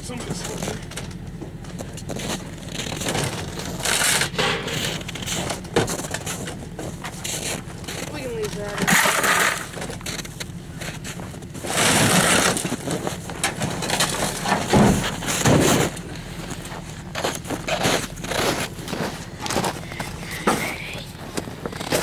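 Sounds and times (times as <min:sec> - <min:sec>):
gear scraping and clunking: 0:00.0 - 0:22.0.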